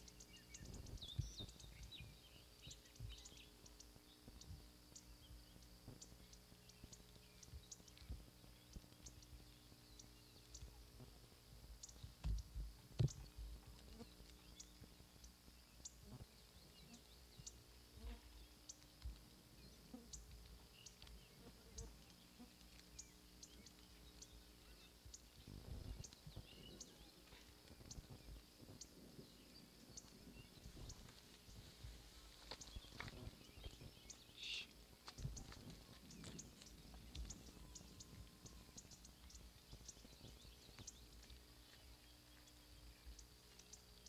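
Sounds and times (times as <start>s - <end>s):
soft regular ticking: 0.0s - 11.0s, 11.6s - 16.1s, 17.3s - 28.9s, 33.7s - 44.0s
bird chirp: 0.0s - 44.0s.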